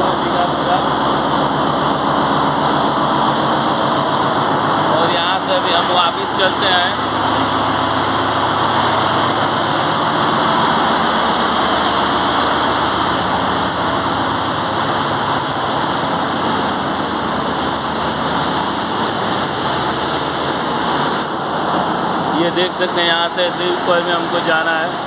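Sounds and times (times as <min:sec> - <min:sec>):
diesel engines running: 0:00.0 - 0:25.0.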